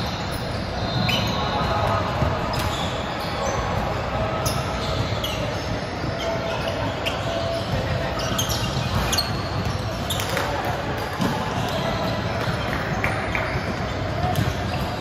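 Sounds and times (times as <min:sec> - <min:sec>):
echoing sports hall din: 0:00.0 - 0:15.0
sneaker squeaks on court: 0:00.0 - 0:15.0.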